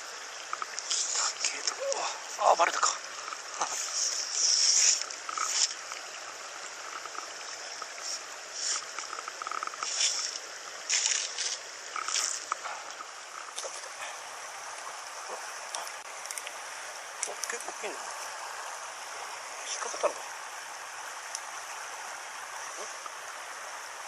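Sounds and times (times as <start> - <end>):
stream running over stones: 0.0 - 24.0.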